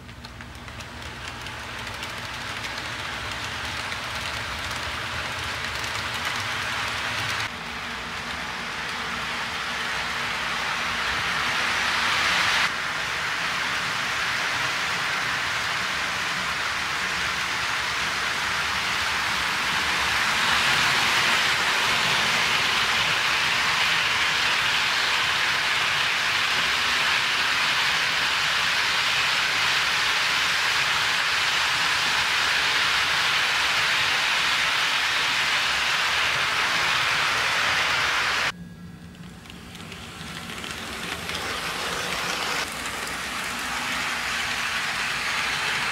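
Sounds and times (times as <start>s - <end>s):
model train wheels clattering: 0.0s - 7.5s, 13.2s - 38.0s, 39.1s - 45.9s.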